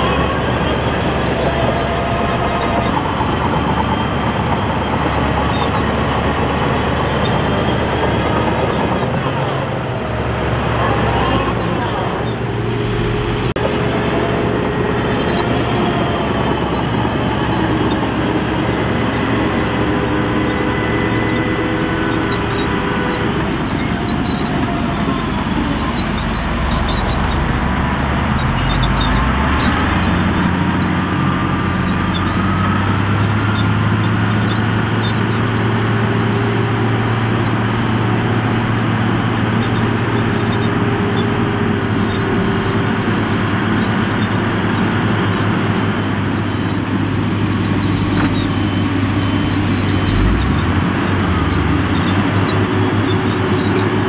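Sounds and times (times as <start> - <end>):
diesel earthmoving machinery: 0.0 - 54.0.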